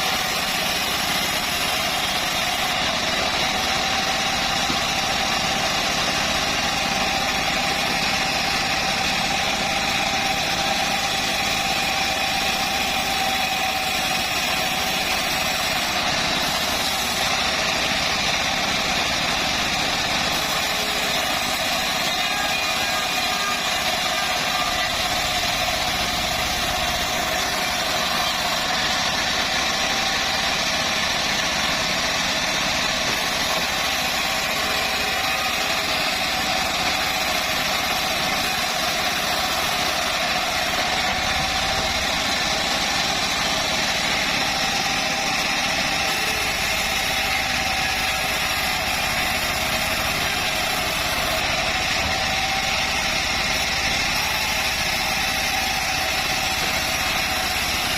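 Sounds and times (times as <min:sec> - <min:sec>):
band sawmill running: 0:00.0 - 0:57.9.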